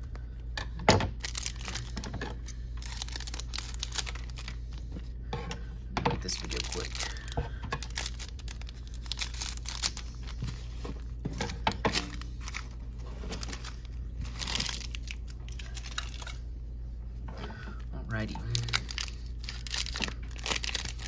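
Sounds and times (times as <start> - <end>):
foil wrappers crinkling: 1.1 - 5.0, 6.2 - 16.5, 18.1 - 21.0.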